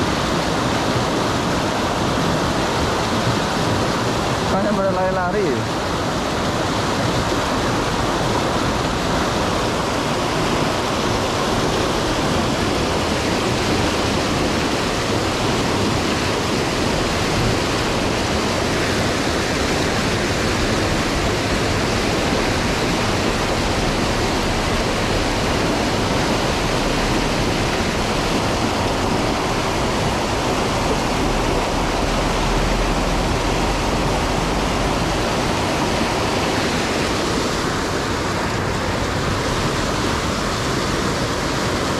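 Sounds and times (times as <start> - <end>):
river rapids rushing: 0.0 - 41.9.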